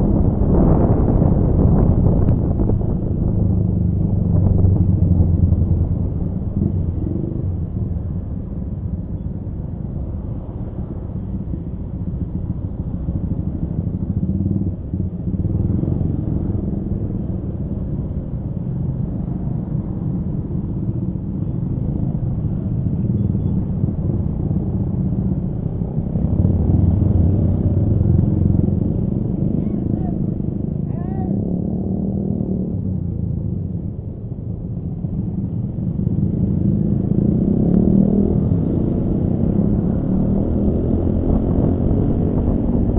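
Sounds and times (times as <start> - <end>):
road noise: 0.0 - 42.9.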